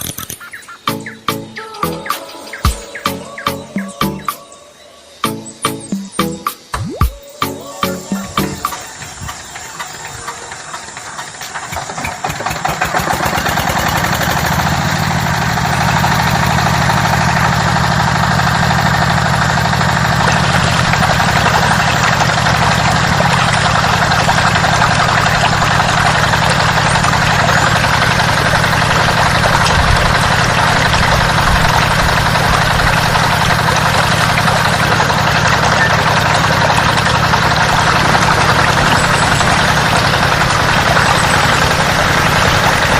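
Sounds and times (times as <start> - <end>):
small water pump engine running: 5.4 - 42.9.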